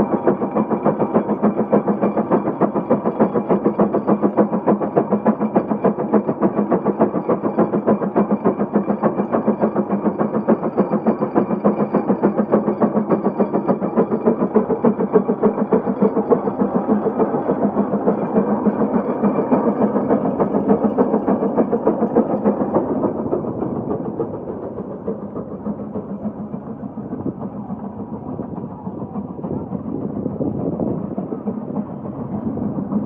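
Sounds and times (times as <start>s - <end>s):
steam engine exhaust chuffing: 0.0s - 33.0s.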